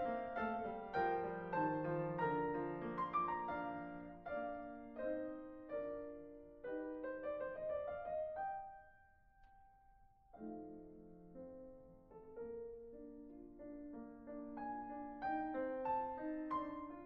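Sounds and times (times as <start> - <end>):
gentle solo piano chords: 0.0 - 17.0.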